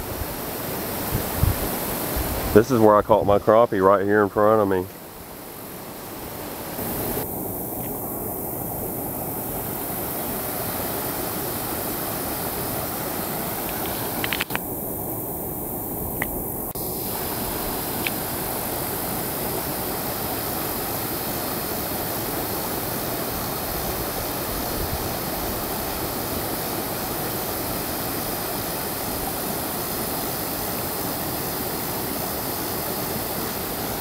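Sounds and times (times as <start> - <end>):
creek water rushing over rocks: 0.0 - 15.0, 15.7 - 34.0.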